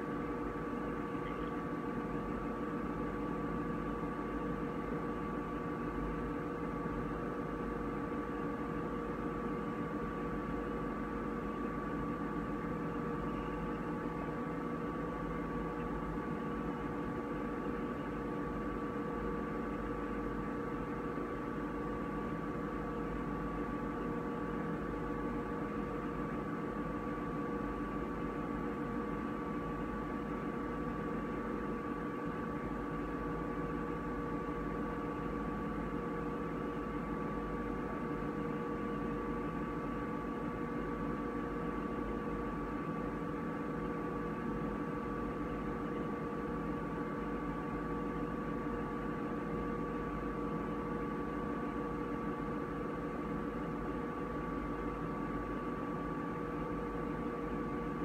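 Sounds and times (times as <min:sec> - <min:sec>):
electrical hum with hiss: 0:00.0 - 0:58.0.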